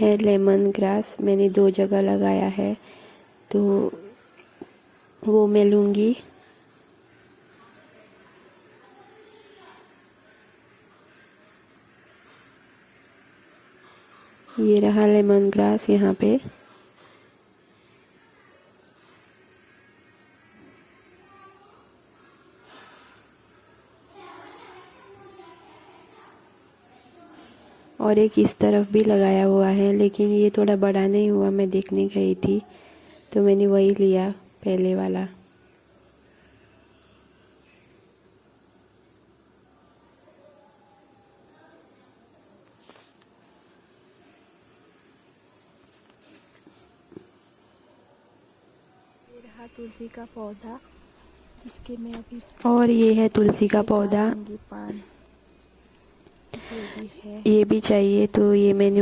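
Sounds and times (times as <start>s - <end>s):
crickets trilling: 0.0s - 59.0s
insects chirring: 0.0s - 59.0s.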